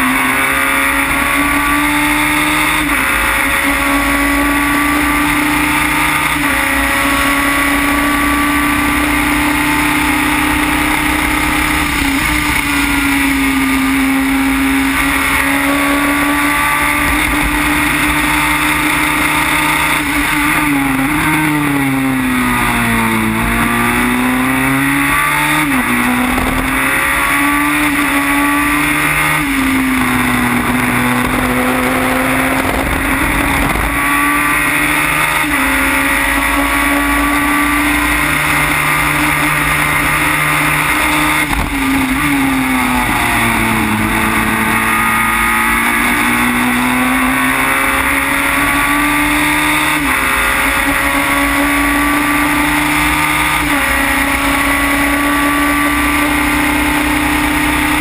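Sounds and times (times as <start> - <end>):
racing car engine shifting gears: 0.0 - 58.0.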